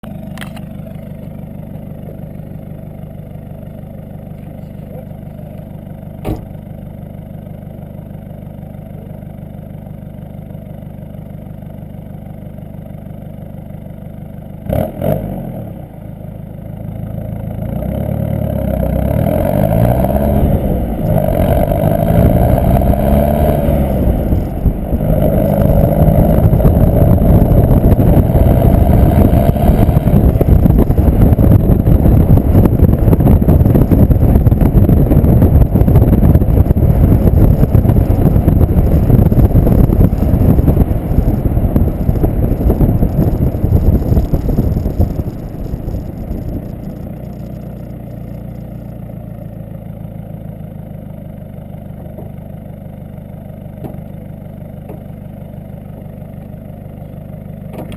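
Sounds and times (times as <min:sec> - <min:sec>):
diesel engine accelerating: 0:00.0 - 0:57.9.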